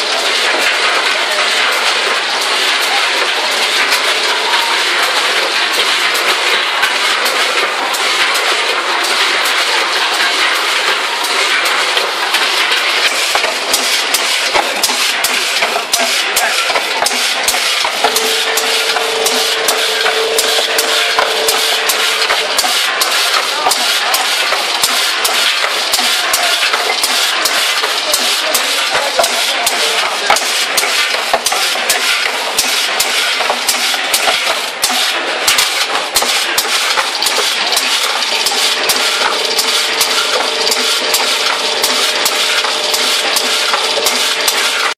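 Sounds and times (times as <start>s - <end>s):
machinery clicking and clattering: 0.0s - 44.9s
steady machine tone: 0.0s - 44.9s.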